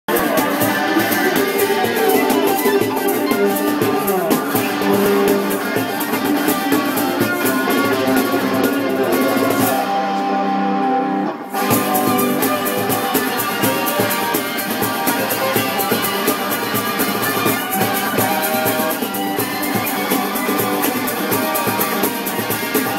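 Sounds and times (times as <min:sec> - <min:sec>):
percussion beat: 0:00.1 - 0:10.0, 0:11.6 - 0:22.9.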